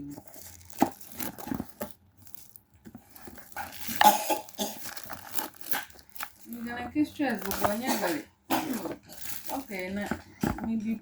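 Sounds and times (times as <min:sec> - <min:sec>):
crinkling rustle: 0:00.0 - 0:11.0.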